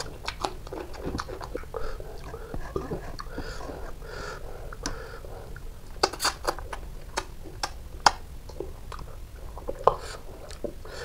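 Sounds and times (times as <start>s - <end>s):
wet mouth clicks while chewing: 0.0s - 4.0s, 4.7s - 10.8s.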